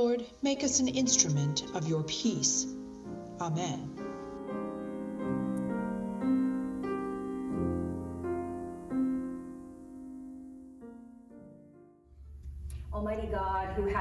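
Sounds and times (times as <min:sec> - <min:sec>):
piano music with ringing notes: 0:00.0 - 0:12.1.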